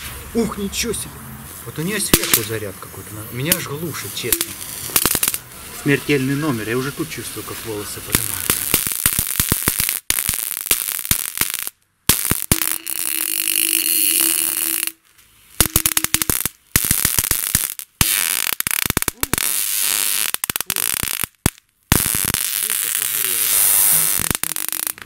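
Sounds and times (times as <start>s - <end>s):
high-voltage sparks crackling: 1.4s - 25.0s.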